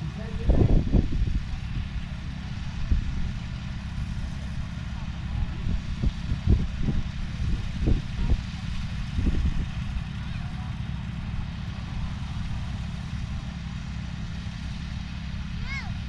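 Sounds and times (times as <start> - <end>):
tractor engine rumble: 0.0 - 16.0.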